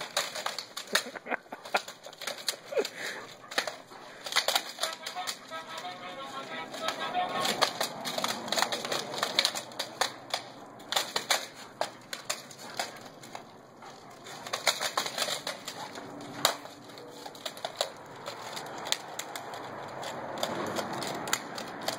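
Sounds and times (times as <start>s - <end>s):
dog claws clicking on concrete: 0.0s - 21.9s.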